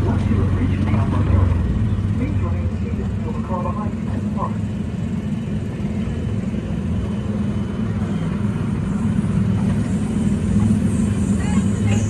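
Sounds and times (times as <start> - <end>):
ride car humming and rumbling: 0.0 - 12.0.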